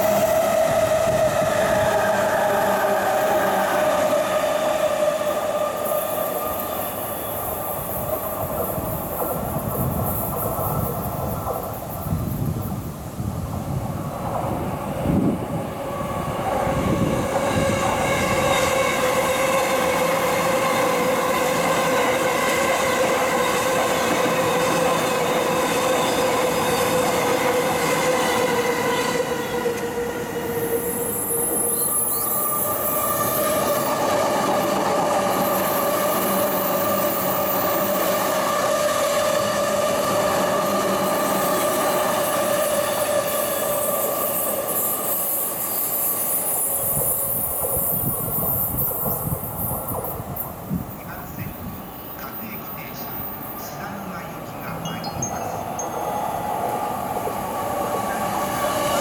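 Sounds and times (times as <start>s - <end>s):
electric train whine: 0.0s - 59.0s
train running noise: 0.0s - 59.0s.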